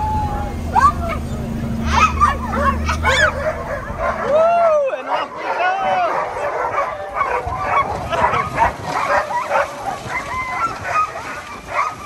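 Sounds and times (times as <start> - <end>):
dogs barking and yipping: 1.8 - 12.0.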